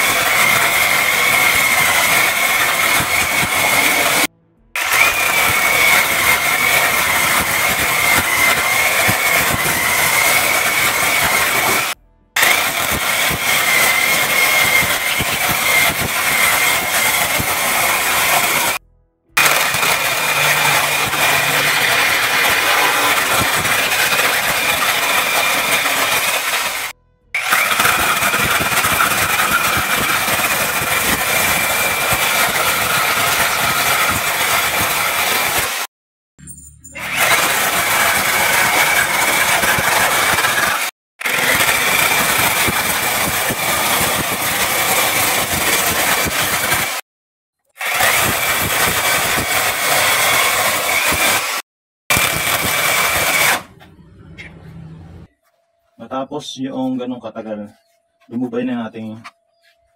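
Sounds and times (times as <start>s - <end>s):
chainsaw high whine: 0.0s - 18.8s, 19.4s - 35.9s, 37.0s - 47.0s, 47.7s - 53.8s.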